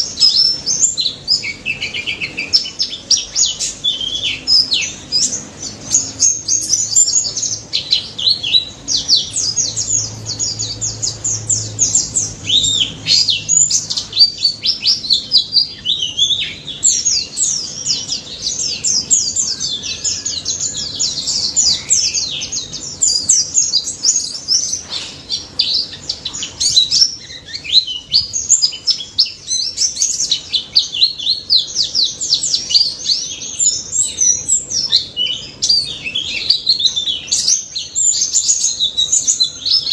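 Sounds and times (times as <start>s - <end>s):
bird singing high sharp chirps: 0.0s - 39.9s.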